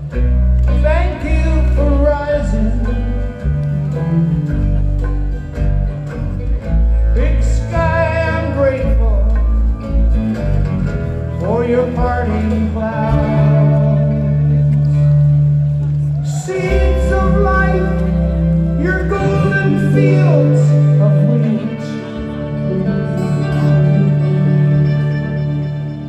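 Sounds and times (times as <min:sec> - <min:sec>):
live rock band music: 0:00.0 - 0:26.0.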